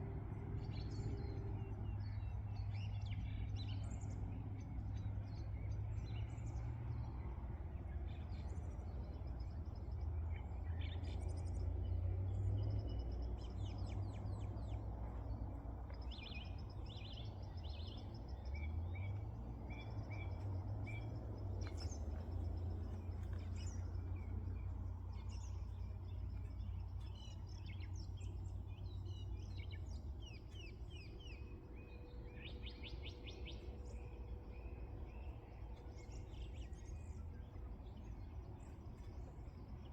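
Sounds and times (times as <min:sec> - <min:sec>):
steady low rumble: 0:00.0 - 0:39.9
small birds chirping: 0:07.8 - 0:39.9.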